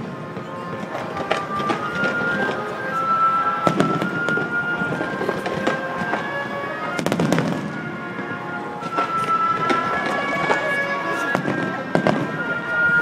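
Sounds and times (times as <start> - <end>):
background music: 0.0 - 13.0
fireworks bursting and crackling: 0.0 - 13.0.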